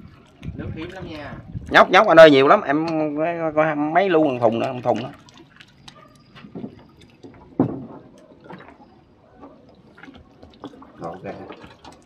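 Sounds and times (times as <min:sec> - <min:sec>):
water splashing and dripping: 0:00.0 - 0:03.0, 0:04.0 - 0:12.0.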